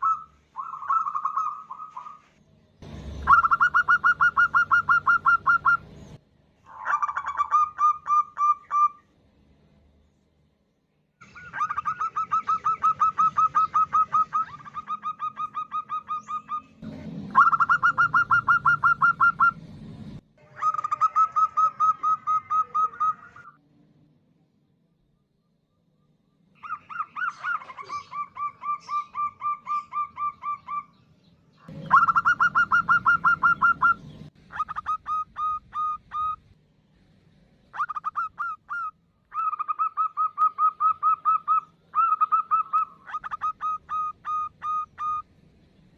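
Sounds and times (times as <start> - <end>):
dove calling: 0.0 - 9.1, 11.2 - 19.6, 20.4 - 23.6, 26.6 - 31.0, 31.6 - 36.5, 37.7 - 45.3.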